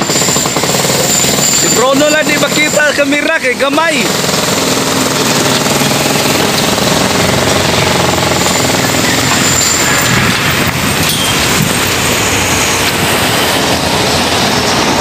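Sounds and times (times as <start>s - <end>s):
jackhammer breaking concrete: 0.0s - 15.0s.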